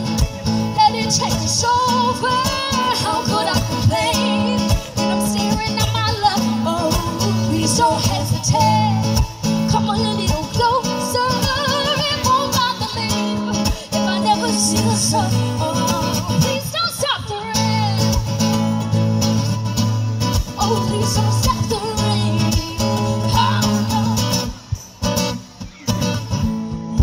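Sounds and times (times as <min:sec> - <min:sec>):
two women singing a pop song: 0:00.0 - 0:18.5, 0:20.3 - 0:24.8
strummed guitars: 0:00.0 - 0:27.0.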